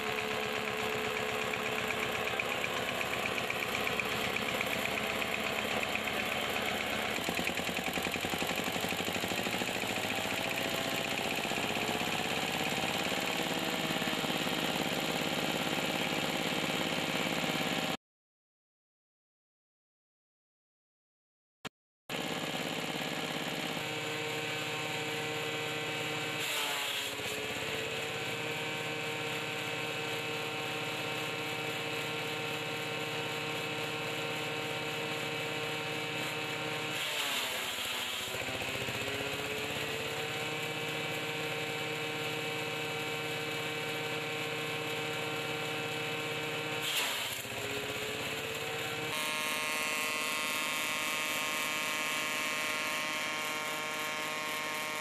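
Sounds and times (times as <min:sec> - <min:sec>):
chaff cutter chopping stalks: 0:00.0 - 0:17.2, 0:23.1 - 0:55.0
diesel engine buzzing drone: 0:00.0 - 0:18.0, 0:22.2 - 0:26.5, 0:27.2 - 0:55.0.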